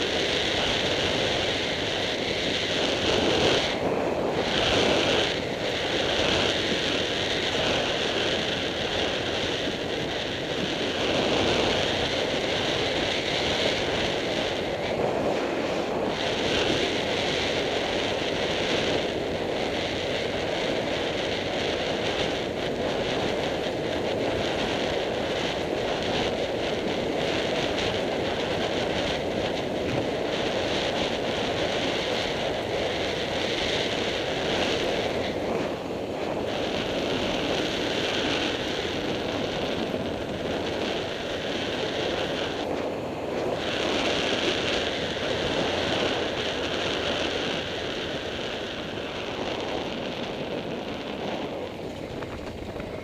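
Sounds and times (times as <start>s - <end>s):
off-road vehicle driving: 0.0s - 53.0s
wind buffeting microphone: 0.0s - 53.0s.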